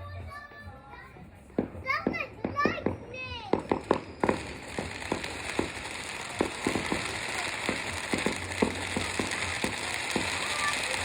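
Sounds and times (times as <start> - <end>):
fireworks popping and banging: 1.5 - 11.0.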